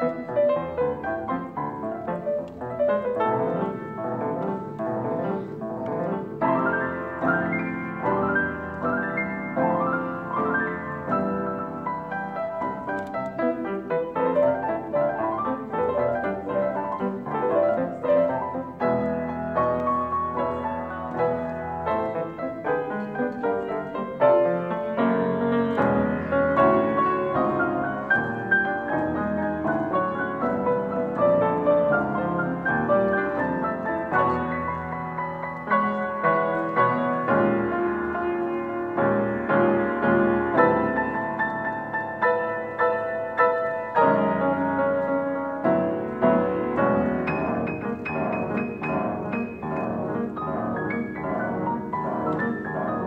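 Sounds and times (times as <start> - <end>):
fast grand piano piece: 0.0 - 53.0.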